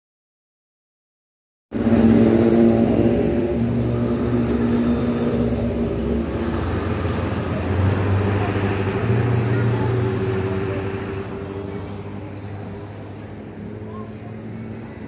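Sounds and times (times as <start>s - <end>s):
engine running steadily: 1.8s - 15.0s.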